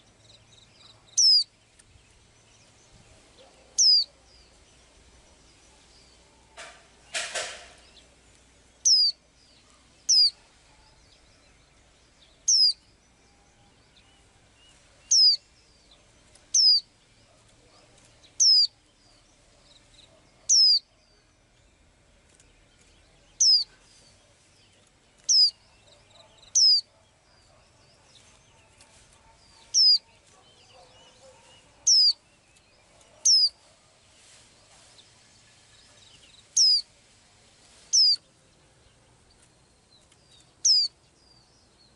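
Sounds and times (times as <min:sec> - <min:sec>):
small bird chirping: 0:00.0 - 0:37.0, 0:37.6 - 0:41.9.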